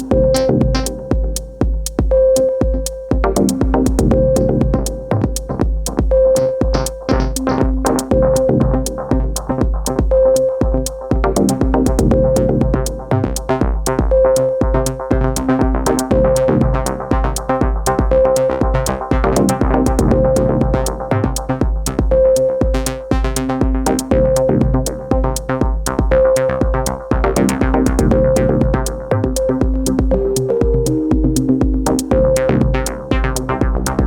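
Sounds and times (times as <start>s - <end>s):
kick drum: 0.0s - 34.0s
repeating synth riff: 0.0s - 34.0s
ticking hi-hats: 0.0s - 34.0s.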